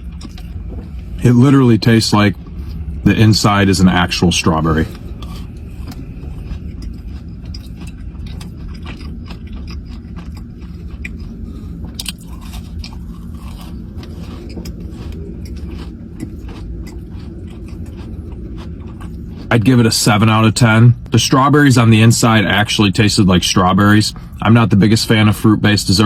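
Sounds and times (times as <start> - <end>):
person chewing a cookie: 0.0 - 22.4
steady low hum: 0.0 - 26.0.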